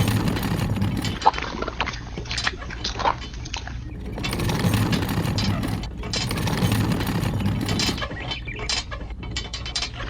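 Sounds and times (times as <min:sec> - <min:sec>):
rapid clatter of gears: 0:00.0 - 0:10.0.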